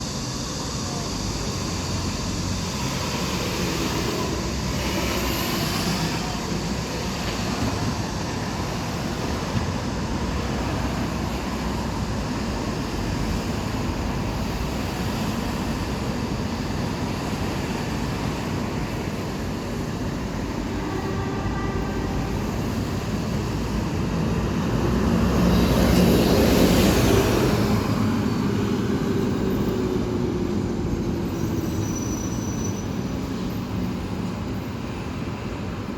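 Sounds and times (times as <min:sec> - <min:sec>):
bus engine and road noise: 0:00.0 - 0:35.9.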